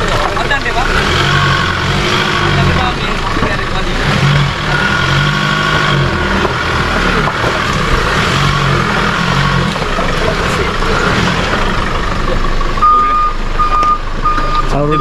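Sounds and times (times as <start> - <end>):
off-road engine at low revs: 0.0 - 15.0.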